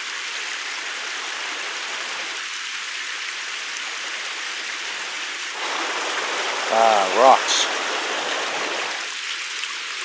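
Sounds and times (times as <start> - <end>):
stream water rushing over rocks: 0.0 - 10.0.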